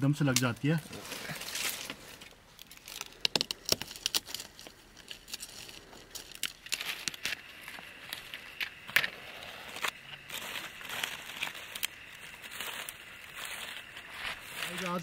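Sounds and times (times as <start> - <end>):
twigs crackling and snapping: 0.1 - 15.0.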